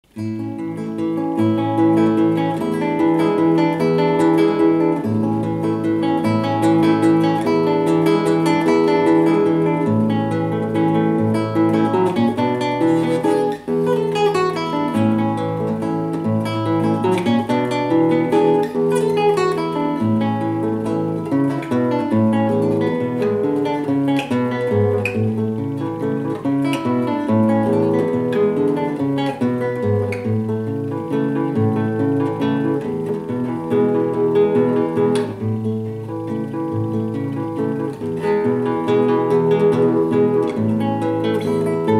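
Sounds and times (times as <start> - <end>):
classical guitar fingerstyle: 0.0 - 41.9.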